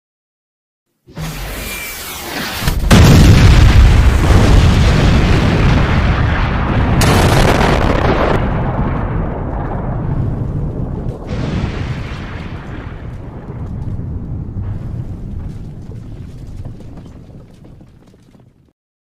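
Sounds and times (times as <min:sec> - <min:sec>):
explosion blasts: 0:01.1 - 0:18.0
deep explosion rumble: 0:02.6 - 0:18.6.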